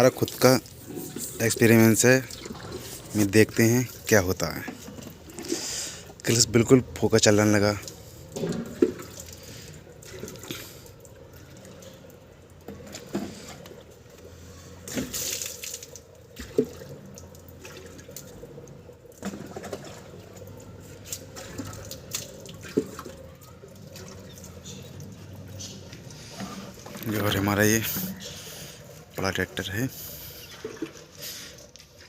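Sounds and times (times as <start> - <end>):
water pouring and splashing: 0.0 - 32.0.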